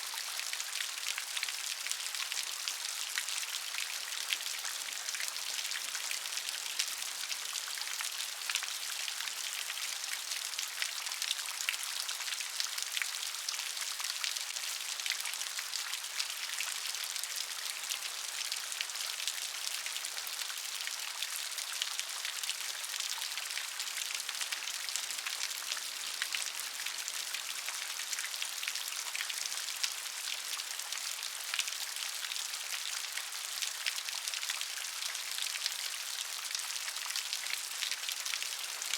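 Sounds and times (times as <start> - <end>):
gentle rain: 0.0 - 38.9.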